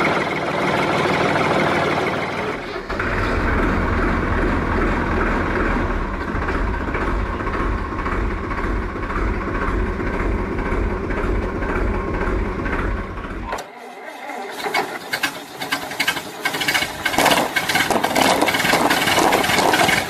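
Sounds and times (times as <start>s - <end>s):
motor running with deep rumble: 0.0s - 20.0s.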